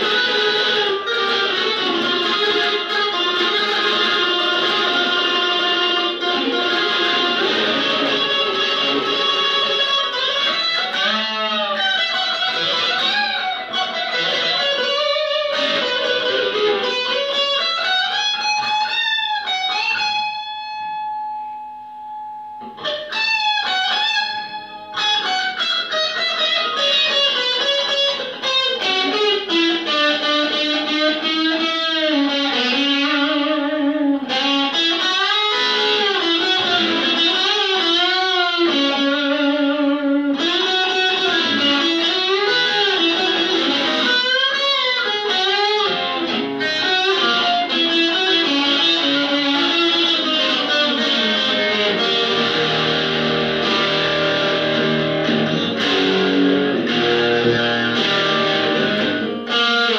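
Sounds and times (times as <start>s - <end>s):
electric guitar solo: 0.0s - 59.9s.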